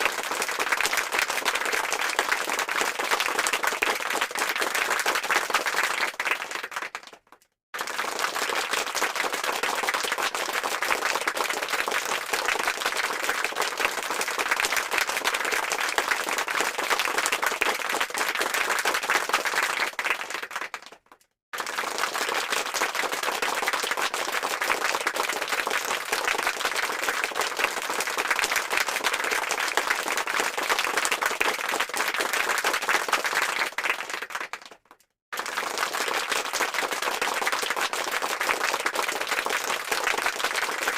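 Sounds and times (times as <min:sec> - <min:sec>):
many hands clapping: 0:00.0 - 0:40.9.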